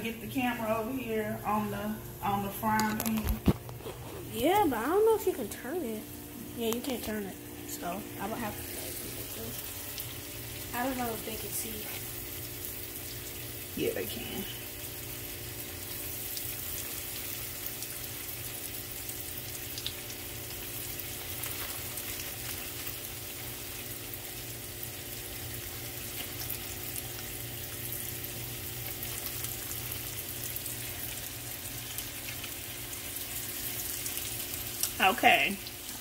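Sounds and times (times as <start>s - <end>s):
food frying in oil: 0.0s - 36.0s.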